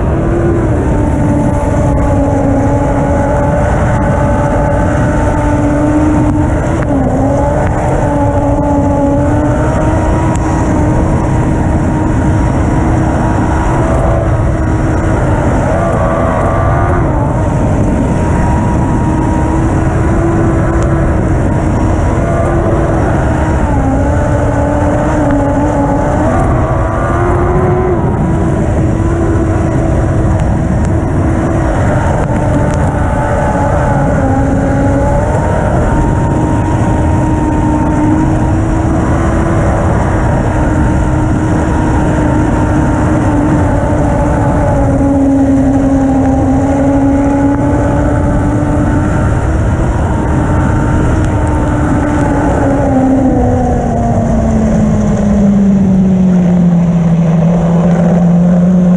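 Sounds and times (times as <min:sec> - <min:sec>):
race car engine running hard: 0:00.0 - 0:58.9.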